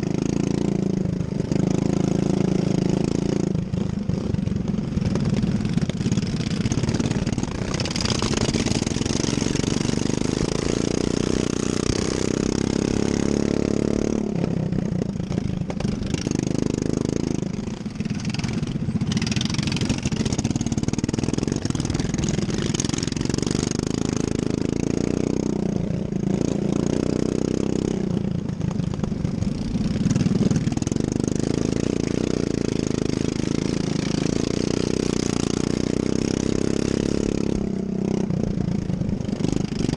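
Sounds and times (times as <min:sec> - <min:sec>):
lawn mower engine revving: 0:00.0 - 0:39.9.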